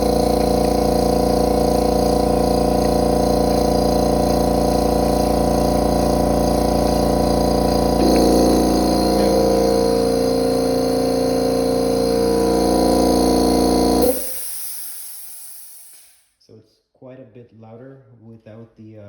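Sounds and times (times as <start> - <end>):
air compressor droning: 0.0 - 16.2.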